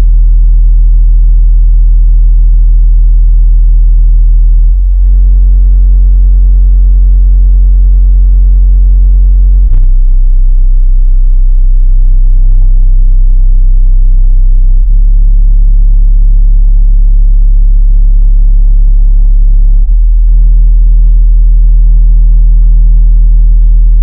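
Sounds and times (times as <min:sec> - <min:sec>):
subwoofer playing deep bass: 0:00.0 - 0:06.1, 0:09.2 - 0:24.0.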